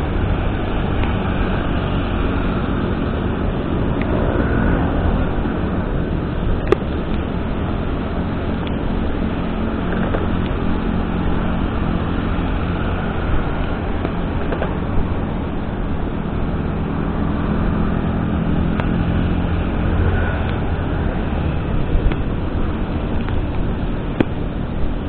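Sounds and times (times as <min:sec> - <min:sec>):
road noise: 0:00.0 - 0:25.0
vehicle engine and tyre rumble: 0:00.0 - 0:25.0.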